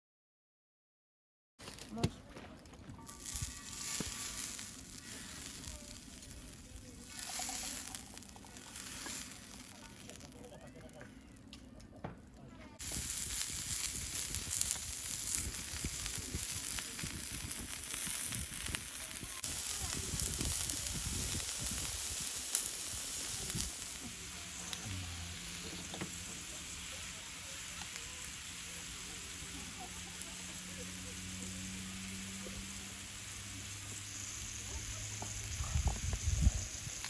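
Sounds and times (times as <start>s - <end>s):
meat sizzling: 3.0s - 11.0s, 12.8s - 37.0s.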